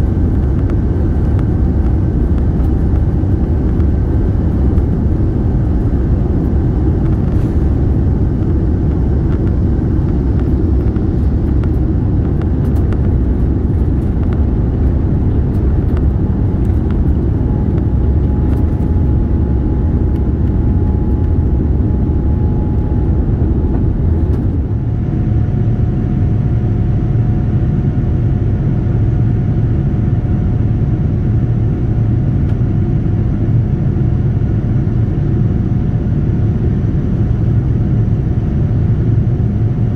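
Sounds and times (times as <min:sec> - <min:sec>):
aircraft engine rumble in cabin: 0:00.0 - 0:39.9
faint engine whine: 0:00.0 - 0:39.9.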